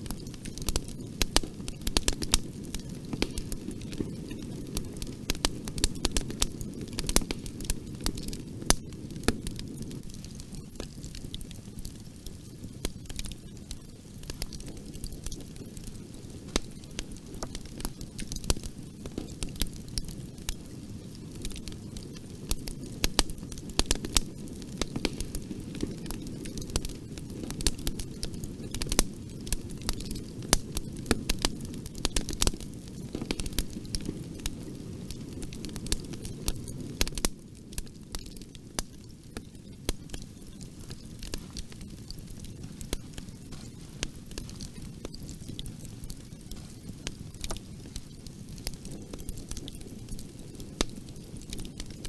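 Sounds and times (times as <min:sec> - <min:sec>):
fire crackling and popping: 0:00.0 - 0:52.0
low rumble of flame: 0:00.0 - 0:52.0.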